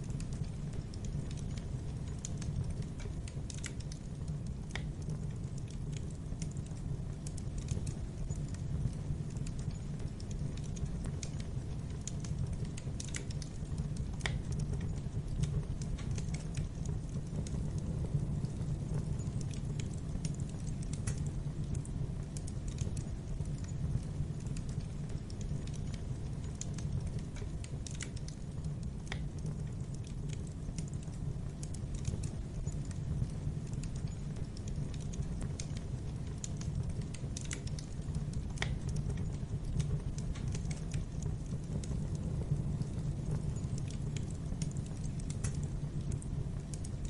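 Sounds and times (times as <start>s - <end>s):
fire crackling and popping: 0.0s - 47.0s
fire flames rumbling: 0.0s - 47.0s.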